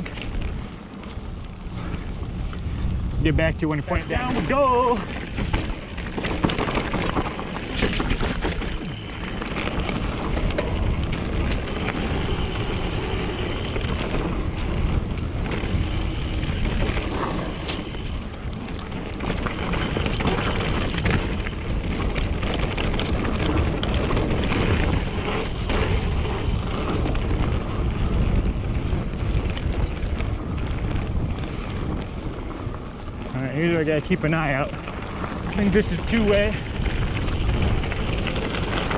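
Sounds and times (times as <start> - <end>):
bike rattling and knocking: 0.0 - 38.9
bike tyres on dirt: 0.0 - 38.9
wind rumble on microphone: 0.0 - 38.9.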